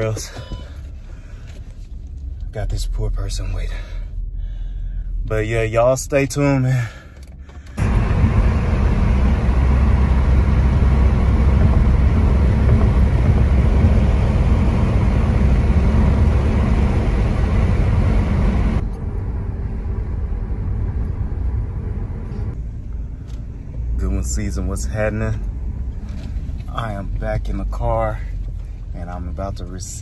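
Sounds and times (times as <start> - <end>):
road and engine rumble in car: 0.0 - 30.0.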